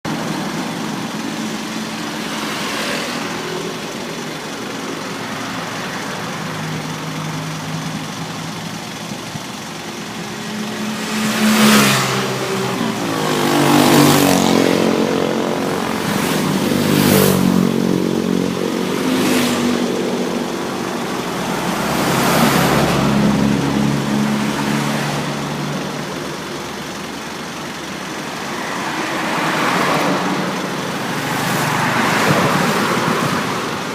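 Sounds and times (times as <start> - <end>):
steady engine hum: 0.0 - 33.9
vehicles passing by: 0.0 - 33.9.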